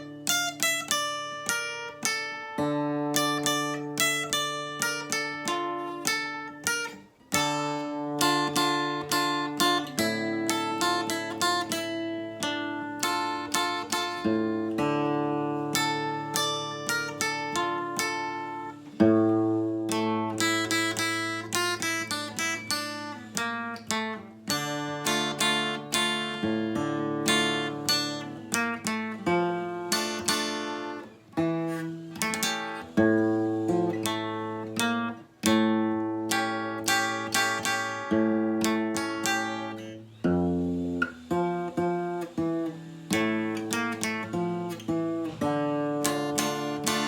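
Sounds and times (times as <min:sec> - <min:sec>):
acoustic guitar melody: 0:00.0 - 0:47.0.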